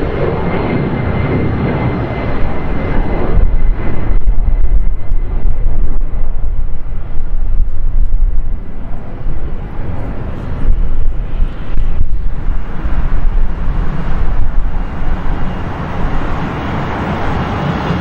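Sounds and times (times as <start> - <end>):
high engine whine: 0.0 - 18.0
jet engines roaring: 0.0 - 18.0.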